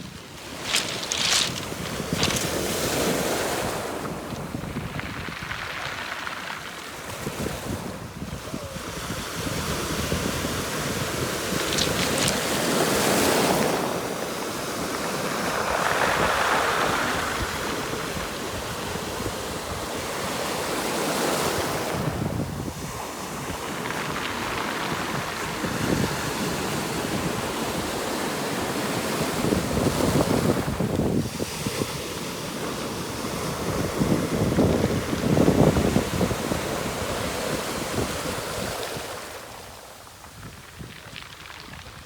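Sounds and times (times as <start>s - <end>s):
sea waves on stony beach: 0.0s - 42.0s
wind buffeting microphone: 0.0s - 42.0s.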